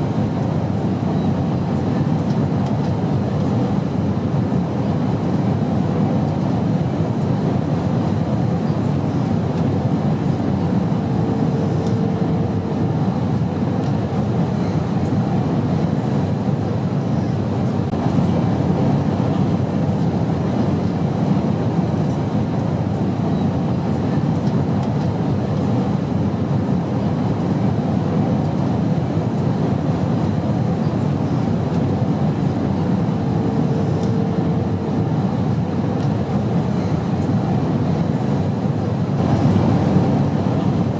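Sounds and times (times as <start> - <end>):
airplane drone: 0.0 - 40.9.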